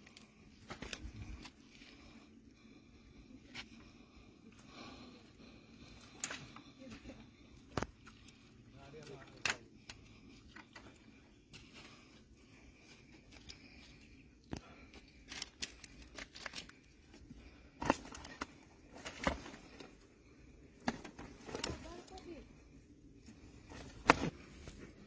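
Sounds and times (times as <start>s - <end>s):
fish handled on stony ground: 0.0s - 25.0s.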